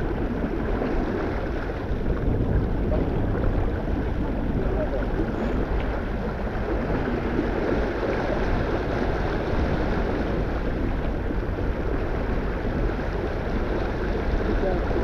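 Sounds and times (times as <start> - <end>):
water splashing along hull: 0.0 - 15.0
wind noise: 0.0 - 15.0.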